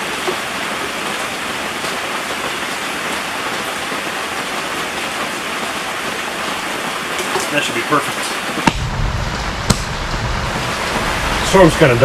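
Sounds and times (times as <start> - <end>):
rain on a fabric tent: 0.0 - 12.0.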